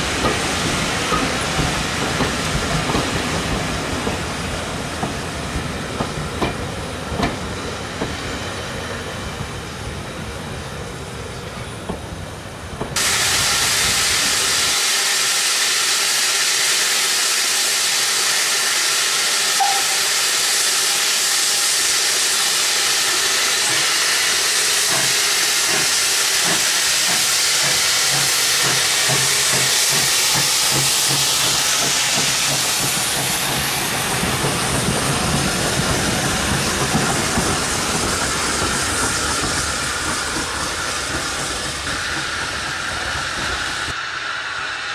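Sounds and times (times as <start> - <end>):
steam locomotive hissing: 0.0 - 44.9.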